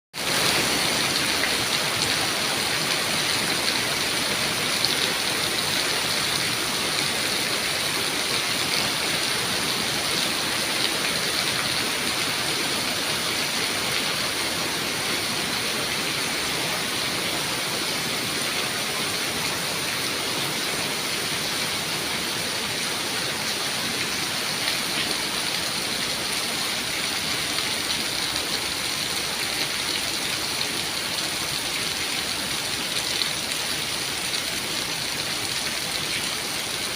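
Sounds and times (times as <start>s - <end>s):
heavy rain pouring: 0.2s - 36.9s.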